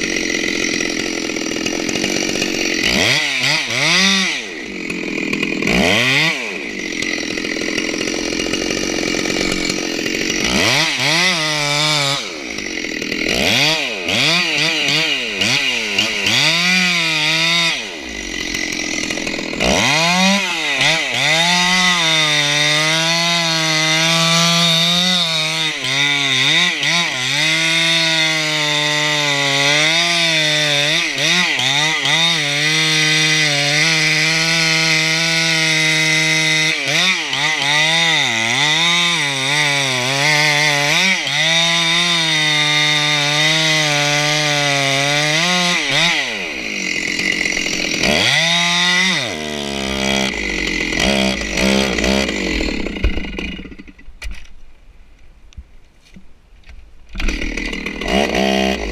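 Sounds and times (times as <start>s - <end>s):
chainsaw sawing wood: 0.0s - 54.6s, 57.0s - 58.9s.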